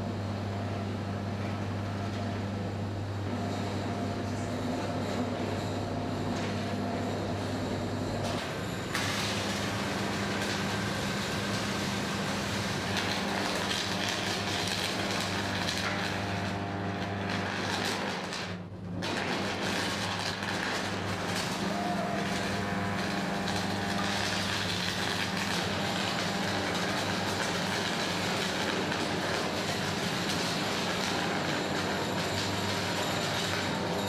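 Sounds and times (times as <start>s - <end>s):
low electrical hum: 0.0s - 34.0s
machinery roar: 4.3s - 33.9s.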